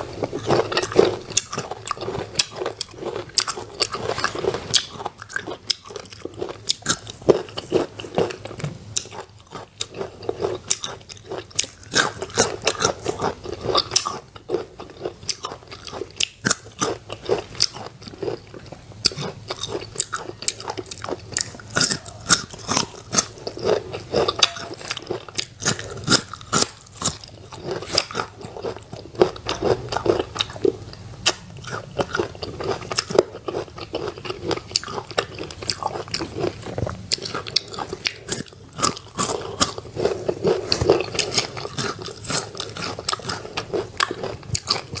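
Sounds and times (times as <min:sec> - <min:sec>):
crunchy fruit chewing: 0:00.0 - 0:45.0.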